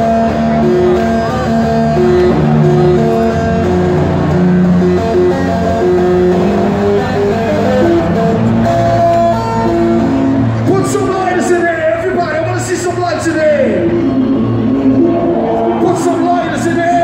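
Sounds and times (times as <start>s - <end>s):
hardcore electronic dance music: 0.0s - 17.0s.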